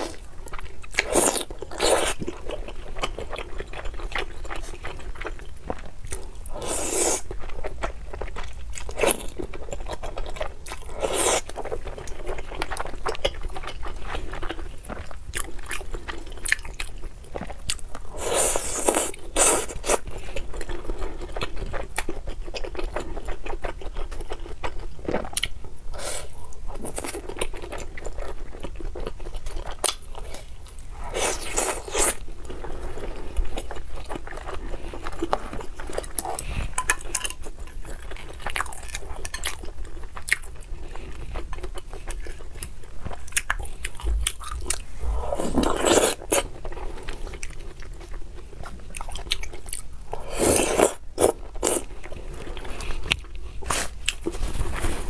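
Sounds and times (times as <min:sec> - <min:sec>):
chewing with wet mouth sounds: 0:00.0 - 0:54.4.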